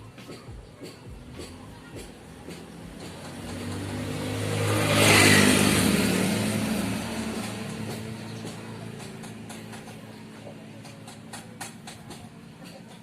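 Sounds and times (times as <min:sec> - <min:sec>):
motor vehicle engine: 0:00.0 - 0:13.0.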